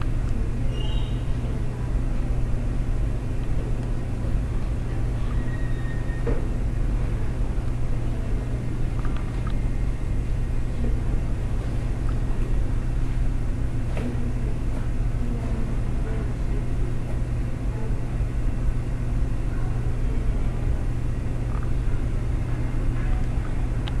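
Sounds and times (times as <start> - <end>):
low rumbling hum: 0.0 - 24.0.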